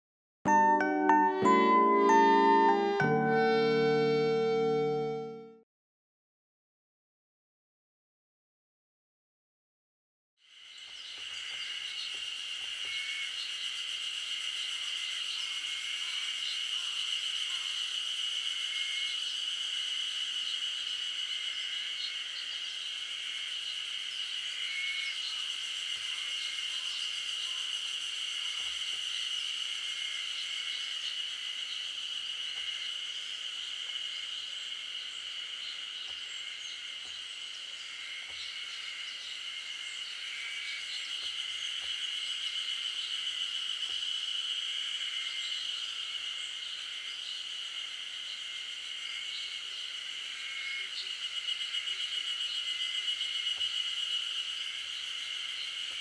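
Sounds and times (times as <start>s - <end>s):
insect chorus high buzz: 10.4s - 56.0s.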